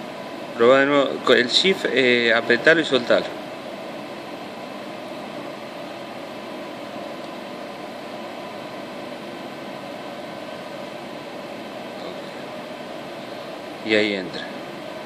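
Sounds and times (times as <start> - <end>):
machinery hiss and hum: 0.0 - 15.0.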